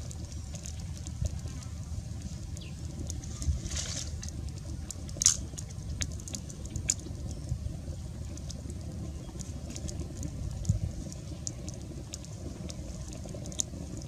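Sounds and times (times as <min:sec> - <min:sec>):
steady low rumble: 0:00.0 - 0:14.0
wood fire crackling and popping: 0:00.0 - 0:14.0.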